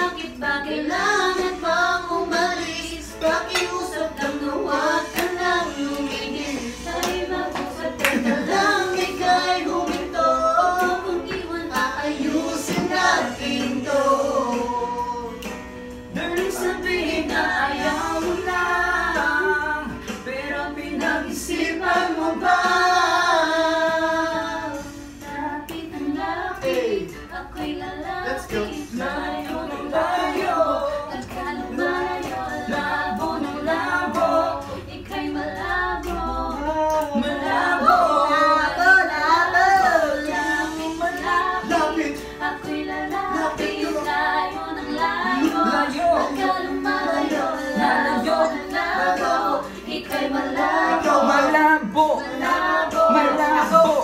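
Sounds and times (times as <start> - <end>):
people singing karaoke: 0.0 - 54.0
recorded backing track: 0.0 - 54.0.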